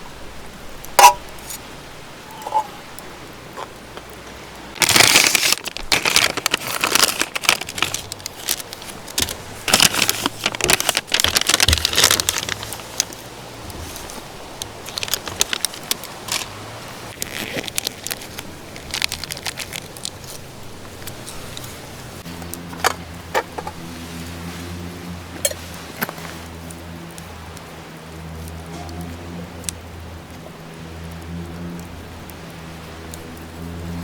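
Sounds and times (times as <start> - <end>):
crinkling and rustling with clicks: 3.5 - 34.0.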